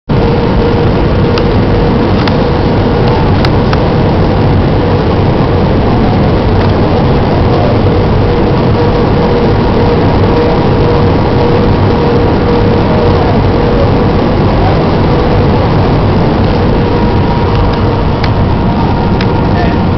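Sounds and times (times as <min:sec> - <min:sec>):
airplane engine and airflow rush: 0:00.0 - 0:19.9
mid-pitched hum: 0:00.0 - 0:19.9.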